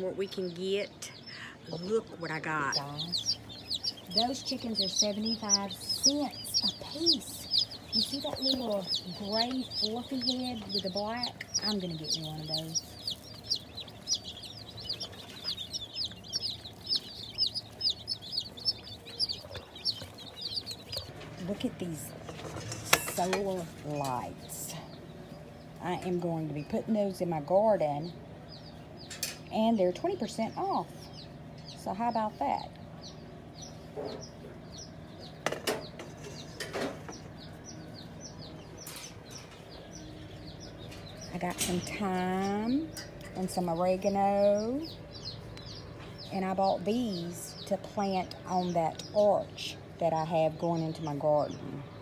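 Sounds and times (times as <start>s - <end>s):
baby chicks peeping: 0.0s - 52.0s
faint low hum: 0.0s - 52.0s.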